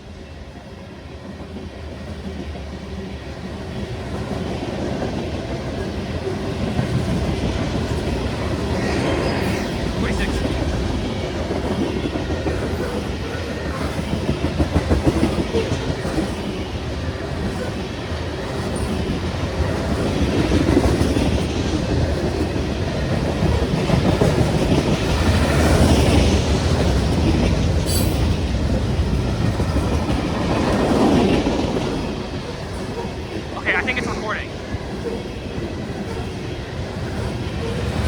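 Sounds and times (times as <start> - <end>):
train wheels rumbling on rail: 0.0 - 33.6, 34.2 - 38.0.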